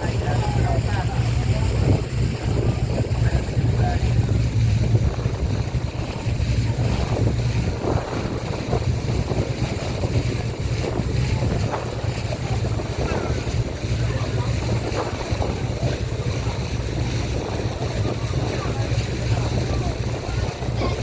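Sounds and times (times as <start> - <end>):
motorboat engine drone: 0.0 - 21.0
water splashing along hull: 0.0 - 21.0
wind buffeting microphone: 0.0 - 21.0.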